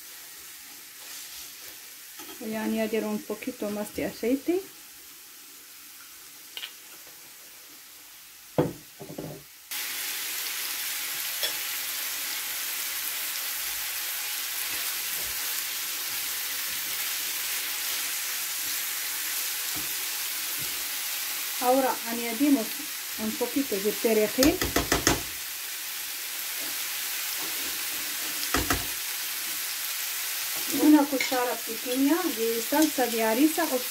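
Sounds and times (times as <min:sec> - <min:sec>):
meat sizzling in a frying pan: 0:00.0 - 0:33.9.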